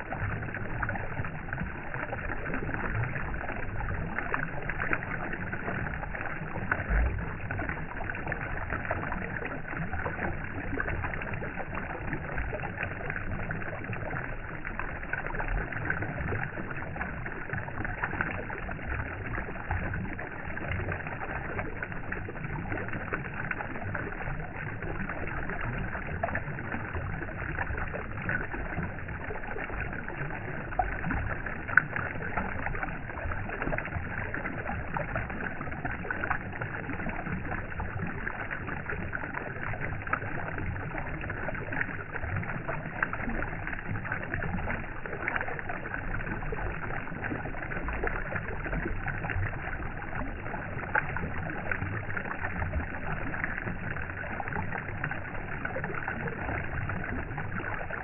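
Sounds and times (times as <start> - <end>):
small clicks and splashes: 0.0 - 58.0.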